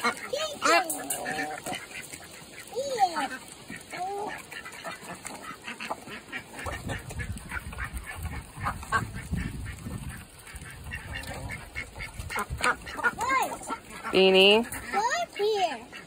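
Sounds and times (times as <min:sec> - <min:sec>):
duck bills dabbling in feed: 0:00.0 - 0:16.0
soft duck quacks: 0:00.0 - 0:16.0.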